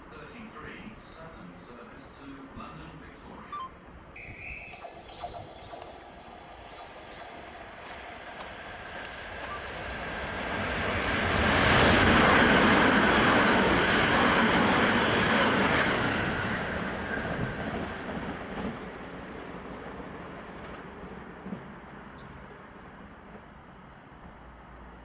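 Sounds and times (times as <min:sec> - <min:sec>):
train passing on rails: 0:00.0 - 0:25.0.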